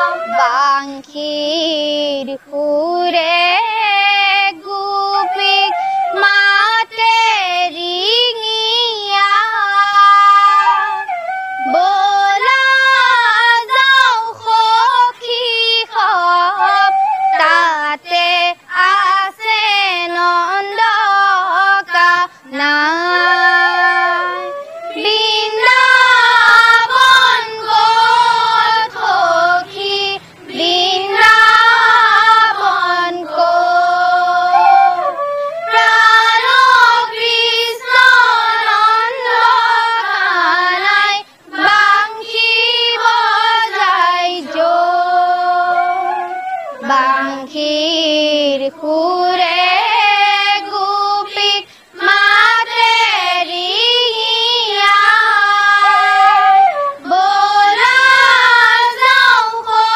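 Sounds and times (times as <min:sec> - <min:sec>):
girls singing in unison: 0:00.0 - 0:59.9.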